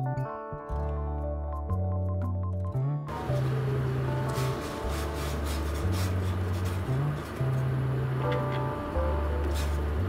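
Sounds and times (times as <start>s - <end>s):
low bass notes: 0.0s - 10.0s.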